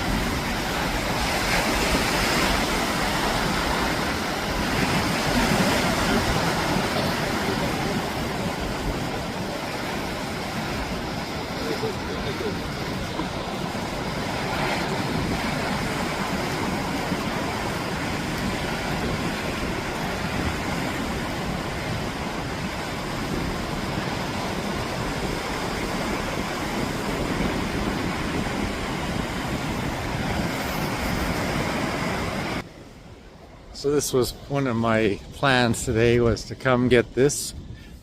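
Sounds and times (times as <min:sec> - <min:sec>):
surf rushing: 0:00.0 - 0:36.2
wind rumbling on microphone: 0:00.0 - 0:38.0.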